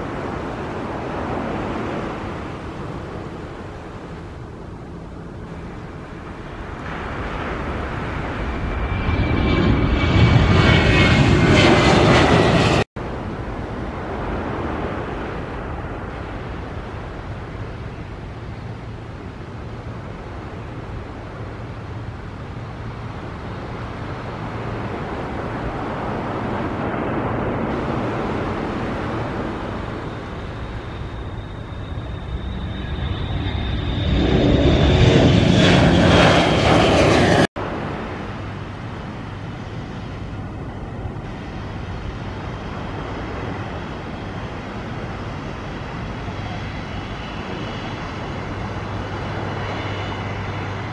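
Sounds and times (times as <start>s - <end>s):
high fan whine: 0.0s - 50.9s
jet engines roaring: 0.0s - 50.9s.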